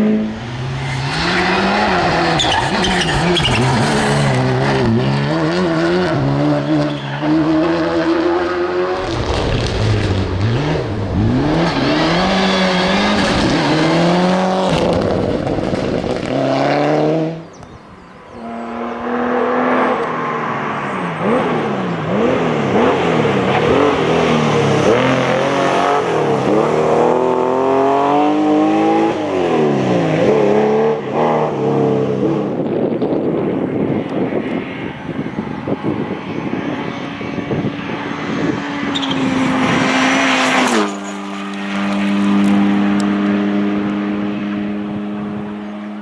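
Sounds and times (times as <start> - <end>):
rally car engine revving: 0.0 - 17.6, 18.3 - 46.0.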